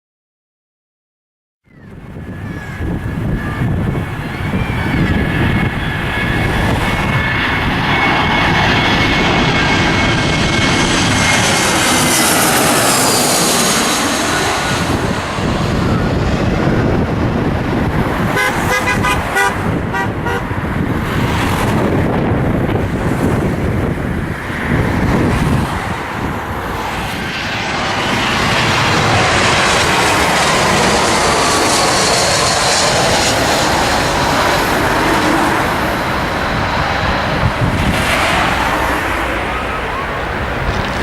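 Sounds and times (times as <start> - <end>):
jet engines passing: 1.7 - 41.0.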